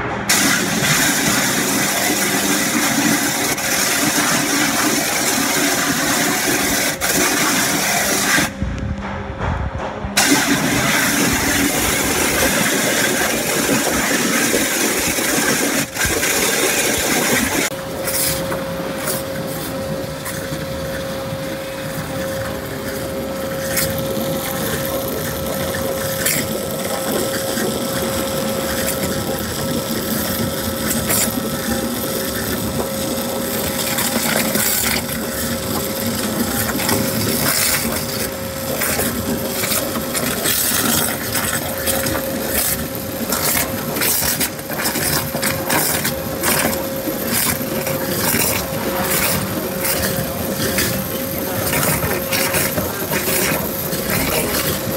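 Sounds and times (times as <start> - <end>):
high-pressure water jet hiss: 0.3 - 8.6, 10.2 - 54.9.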